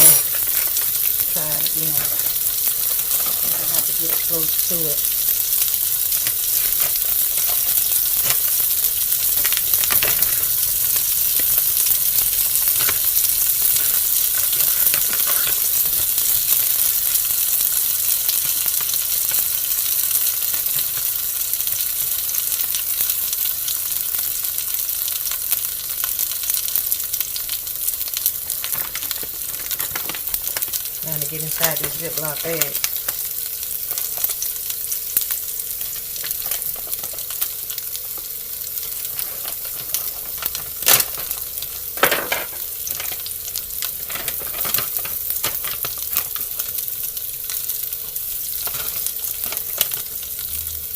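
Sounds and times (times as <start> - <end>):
dumplings sizzling in oil: 0.0 - 50.9.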